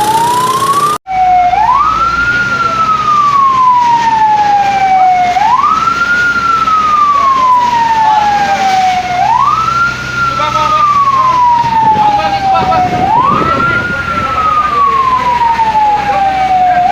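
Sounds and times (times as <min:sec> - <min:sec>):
fire engine siren wailing: 0:00.0 - 0:16.9.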